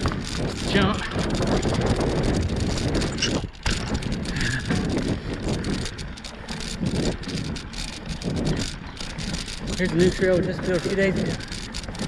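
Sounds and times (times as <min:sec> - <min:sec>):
bicycle tyre rumble on dirt: 0:00.0 - 0:12.0
bike rattling and knocking: 0:00.0 - 0:12.0
wind buffeting microphone: 0:00.0 - 0:12.0.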